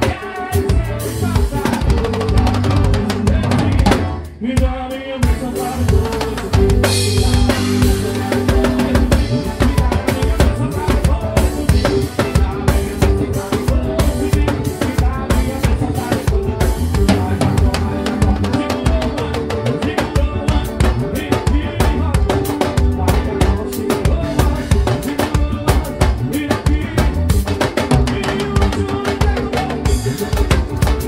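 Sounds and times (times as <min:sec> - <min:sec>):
bass guitar: 0:00.0 - 0:31.0
drum kit kick snare and cymbals: 0:00.0 - 0:31.0
keyboard: 0:00.0 - 0:31.0
worship band playing: 0:00.0 - 0:31.0.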